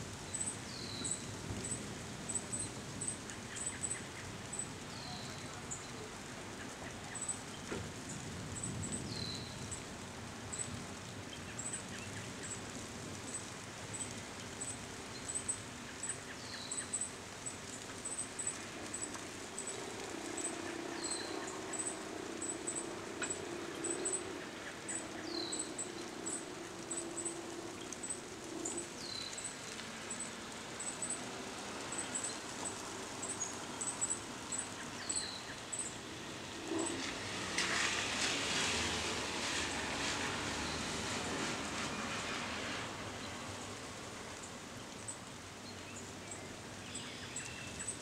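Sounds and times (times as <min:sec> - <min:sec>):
breeze in trees: 0:00.0 - 0:48.0
rain shower hiss: 0:00.0 - 0:48.0.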